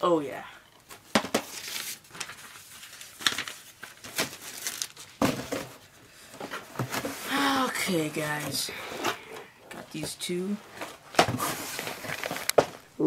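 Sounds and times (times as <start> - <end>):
packaging crumpling and rustling: 0.9 - 10.0, 10.6 - 13.0.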